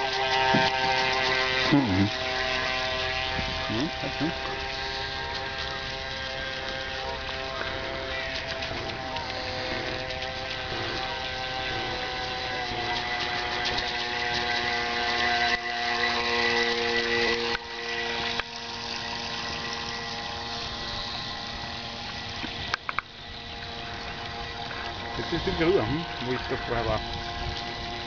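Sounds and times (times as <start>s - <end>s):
model boat motor whining: 0.0s - 28.0s
water noise: 0.0s - 28.0s.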